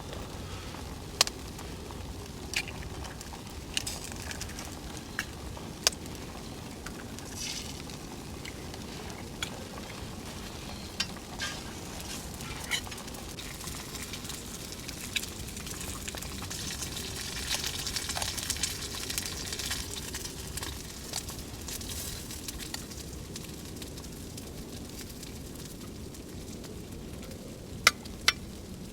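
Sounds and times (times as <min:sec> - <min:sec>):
food sizzling: 0:00.0 - 0:24.0
fire crackling and popping: 0:00.0 - 0:28.9.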